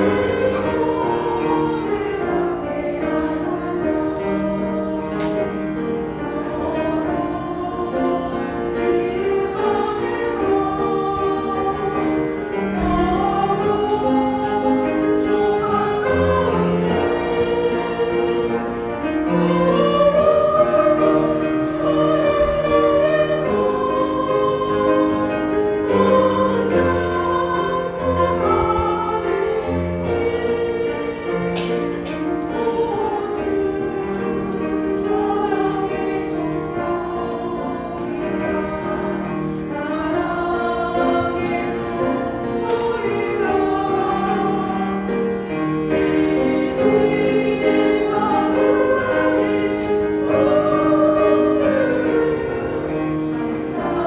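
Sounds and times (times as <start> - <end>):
choir singing gospel: 0.0 - 54.0.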